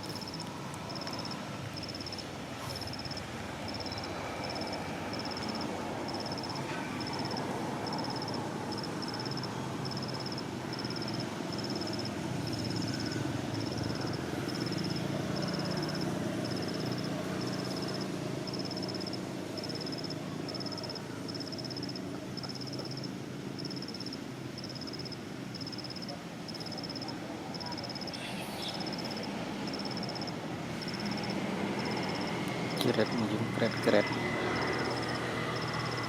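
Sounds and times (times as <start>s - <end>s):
low background noise: 0.0s - 36.0s.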